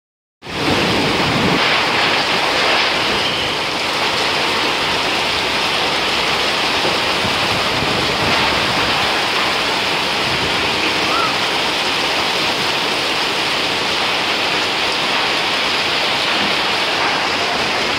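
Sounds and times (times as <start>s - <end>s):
strong wind: 0.4s - 17.9s
torrential rain pouring: 0.4s - 17.9s.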